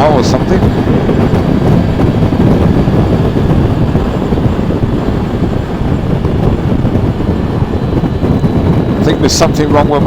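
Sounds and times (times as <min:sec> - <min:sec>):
motorcycle engine: 0:00.0 - 0:09.0
wind rush: 0:00.0 - 0:10.0.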